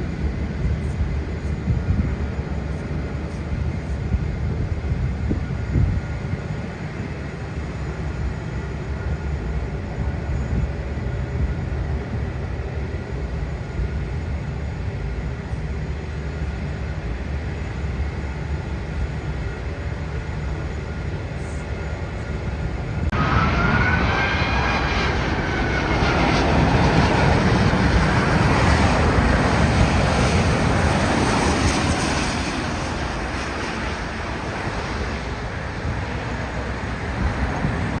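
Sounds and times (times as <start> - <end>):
jet engine rumble: 0.0 - 38.0
jet engine whine: 0.0 - 38.0.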